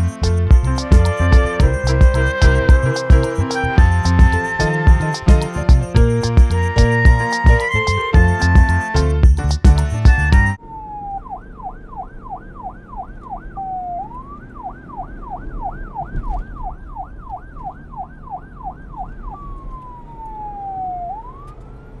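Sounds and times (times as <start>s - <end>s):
police siren yelp and wail: 0.0s - 9.2s, 9.9s - 22.0s.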